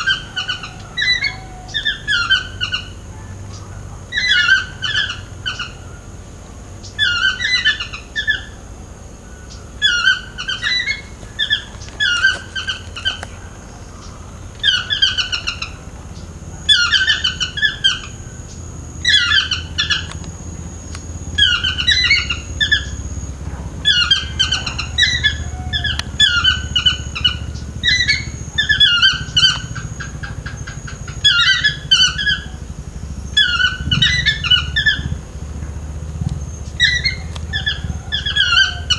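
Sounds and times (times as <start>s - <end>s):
toucan yelping calls: 0.0s - 38.9s.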